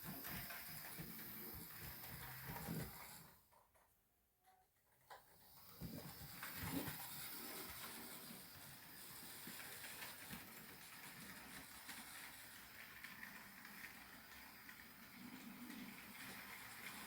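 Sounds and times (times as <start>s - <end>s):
model train running on track: 0.0s - 3.2s, 5.4s - 17.0s.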